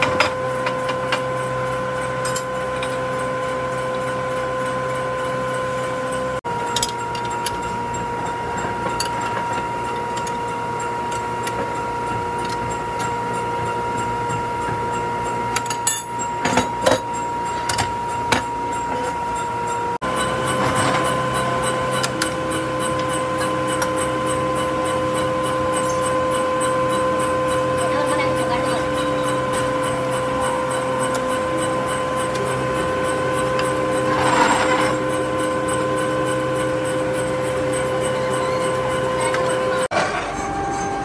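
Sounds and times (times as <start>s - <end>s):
workshop machine whining: 0.0s - 41.0s.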